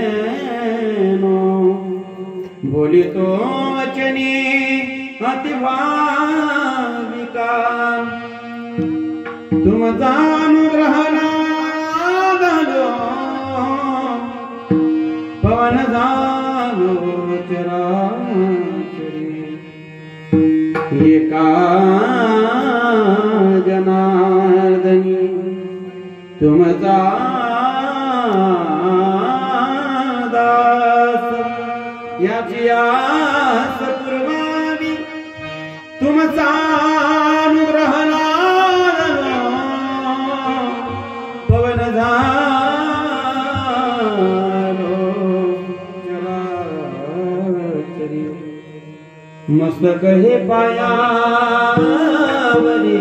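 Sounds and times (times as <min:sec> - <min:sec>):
steady held drone: 0:00.0 - 0:53.0
young man singing: 0:00.0 - 0:53.0.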